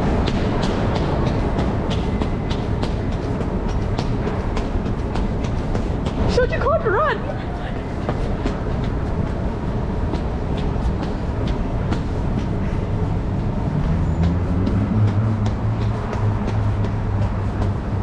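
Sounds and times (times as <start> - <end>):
footsteps hurrying up stairs: 0.0 - 18.0
low hum: 0.0 - 18.0
steady low rumble: 0.0 - 18.0.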